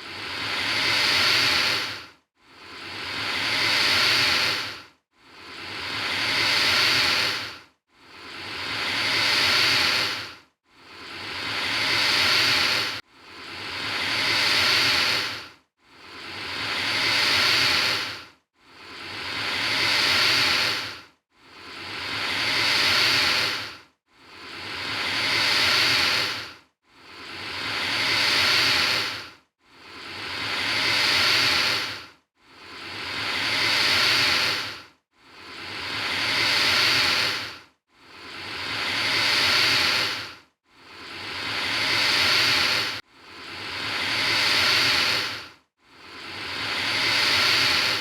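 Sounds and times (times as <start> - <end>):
alligator hissing: 0.3 - 2.0, 2.7 - 4.8, 5.4 - 7.5, 8.2 - 10.3, 10.9 - 13.0, 13.6 - 15.4, 16.2 - 21.0, 21.6 - 29.2, 29.9 - 32.0, 32.7 - 34.8, 35.4 - 37.6, 38.3 - 45.4, 46.2 - 48.0.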